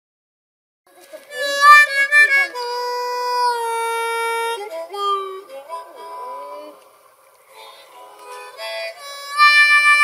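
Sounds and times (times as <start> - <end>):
harmonica notes and chord: 1.3 - 10.0.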